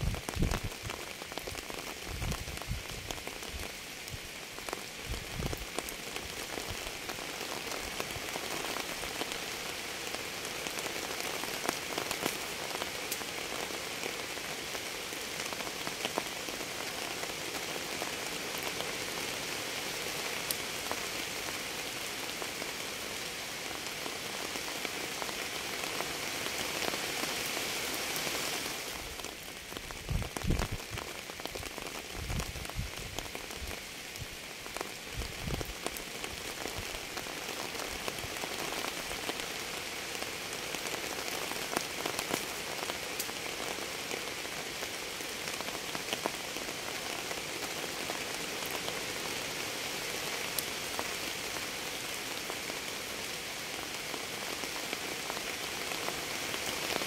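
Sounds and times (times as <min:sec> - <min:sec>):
rain drops ticking: 0:00.0 - 0:57.0
steady rain hiss: 0:00.0 - 0:57.0.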